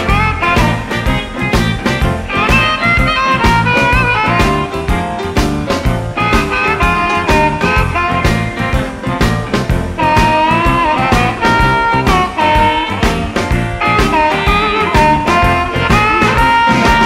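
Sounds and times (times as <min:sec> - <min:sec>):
electric blues instrumental: 0:00.0 - 0:17.0.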